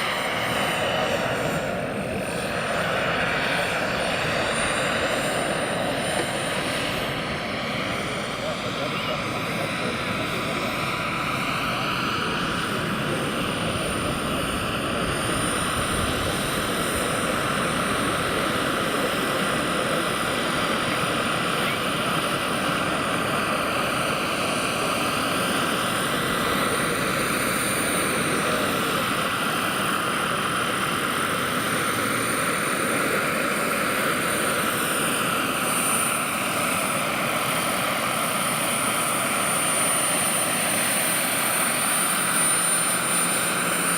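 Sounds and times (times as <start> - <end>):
helicopter rotor rush: 0.0 - 43.9
model helicopter turbine whine: 0.0 - 43.9.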